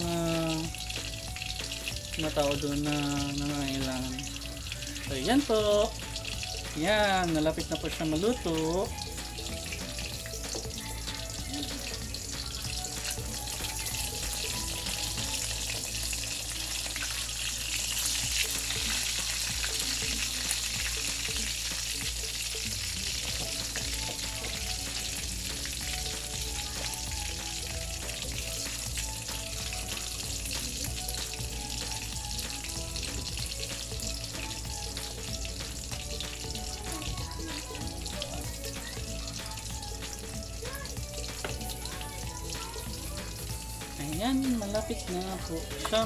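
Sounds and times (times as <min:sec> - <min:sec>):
patties sizzling in pan: 0:00.0 - 0:46.0.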